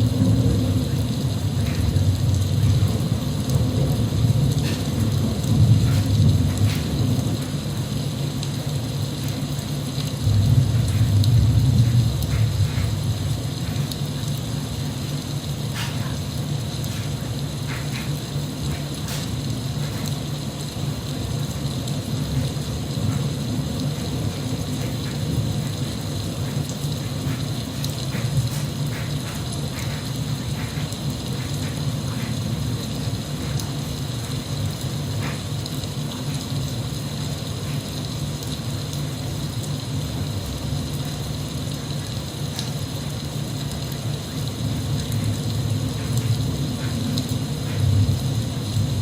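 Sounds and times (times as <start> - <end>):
rain falling: 0.0 - 49.0
faint drip ticks: 0.2 - 48.8.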